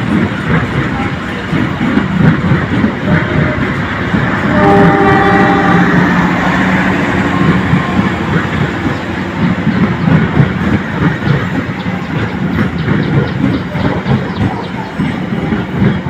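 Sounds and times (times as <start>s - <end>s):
train rumble: 0.0s - 16.0s
wheels clattering over rails: 0.0s - 16.0s.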